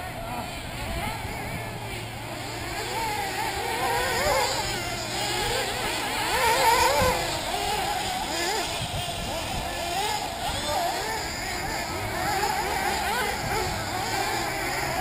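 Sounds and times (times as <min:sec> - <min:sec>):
rc car engines revving: 0:00.0 - 0:15.0.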